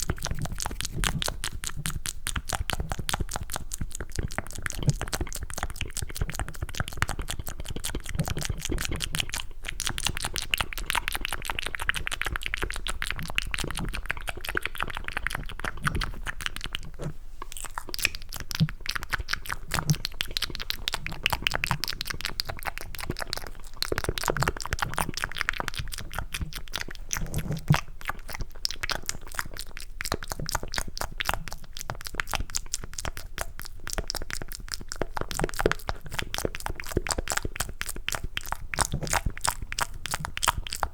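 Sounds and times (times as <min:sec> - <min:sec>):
wet mouth clicks and smacks: 0:00.0 - 0:40.9.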